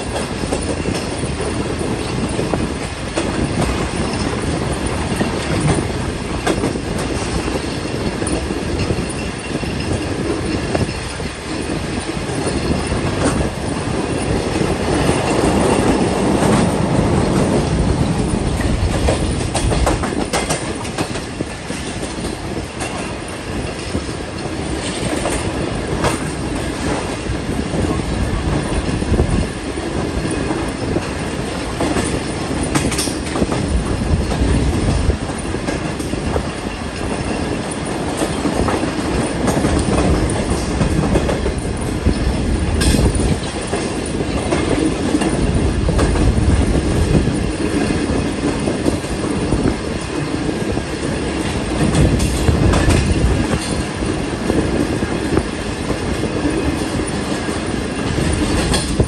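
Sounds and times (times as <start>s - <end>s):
train coaches rumbling and rattling: 0.0s - 59.0s
wheels clicking over rail joints: 0.0s - 59.0s.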